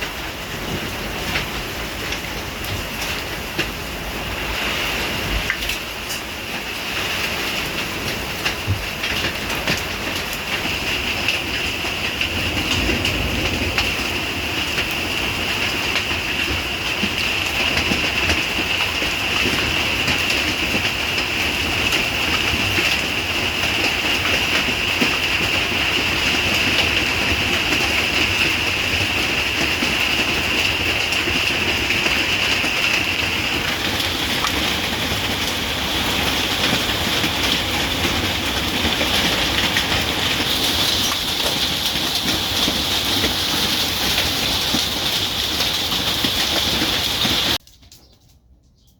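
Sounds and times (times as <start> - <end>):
heavy rain falling: 0.0 - 47.6.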